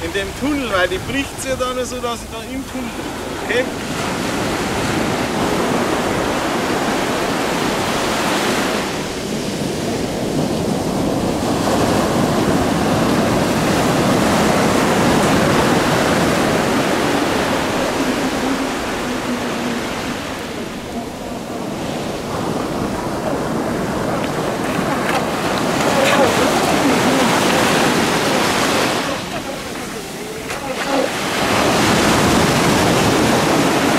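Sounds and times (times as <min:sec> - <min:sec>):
waves breaking on shore: 0:00.0 - 0:33.9.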